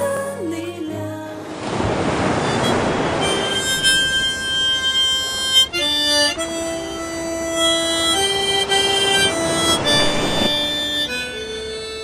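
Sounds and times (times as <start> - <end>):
harmonica melody: 2.3 - 12.0.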